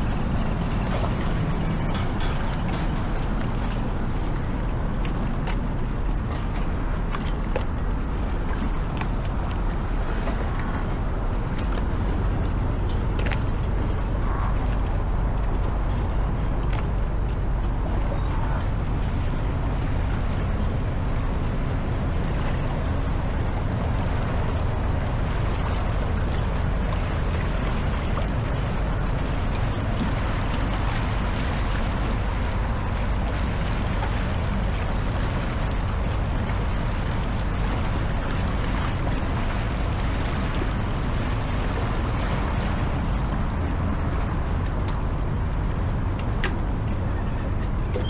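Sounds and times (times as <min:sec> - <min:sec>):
continuous low rumble: 0:00.0 - 0:48.0
even wash of noise: 0:00.0 - 0:48.0.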